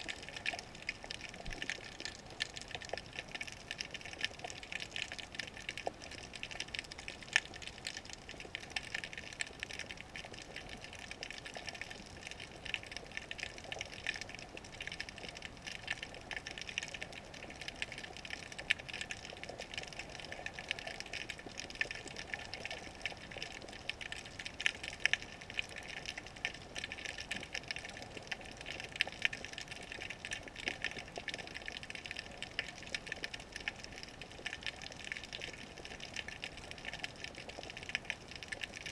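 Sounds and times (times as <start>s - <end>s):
dense crackle of fine clicks: 0.0s - 38.9s
muffled wash of water: 0.0s - 38.9s.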